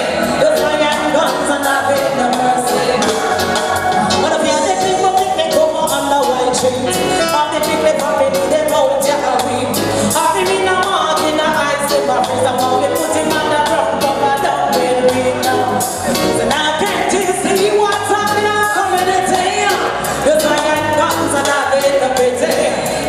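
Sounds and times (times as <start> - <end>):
reggae backing track: 0.0 - 23.0
woman singing: 0.0 - 23.0.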